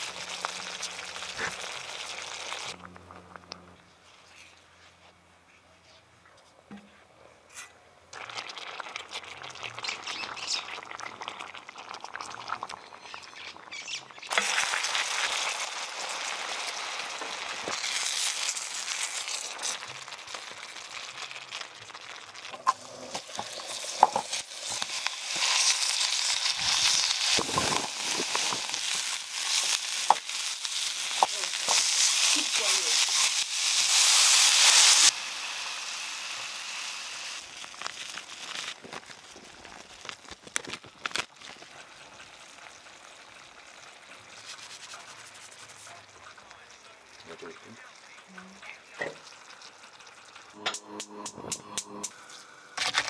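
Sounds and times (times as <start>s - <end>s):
sauce sizzling in a pan: 0.0s - 2.8s, 8.2s - 51.2s.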